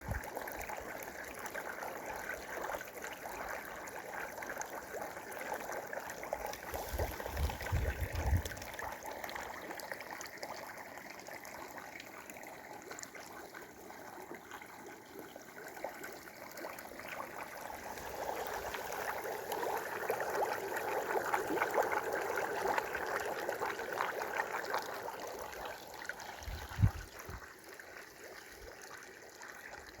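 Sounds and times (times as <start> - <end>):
spring water trickling: 0.0 - 30.0.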